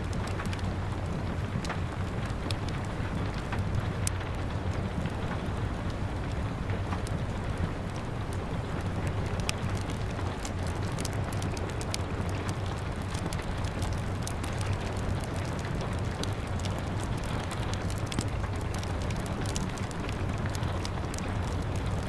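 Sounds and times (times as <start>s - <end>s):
rain patter: 0.0s - 22.0s
wood fire crackling and popping: 0.0s - 22.0s.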